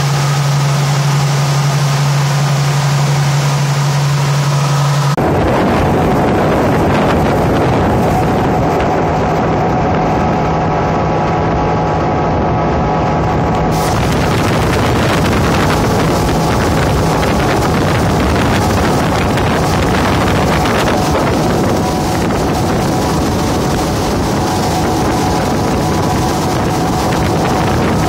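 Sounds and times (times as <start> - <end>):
motorboat engine hum: 0.0 - 28.0
water rushing: 0.0 - 28.0
wind rumble on microphone: 0.0 - 28.0.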